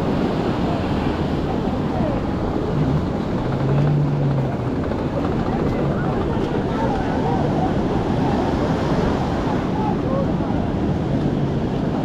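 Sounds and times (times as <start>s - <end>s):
breaking surf: 0.0s - 12.0s
low engine hum: 0.0s - 12.0s
wind buffeting microphone: 0.0s - 12.0s.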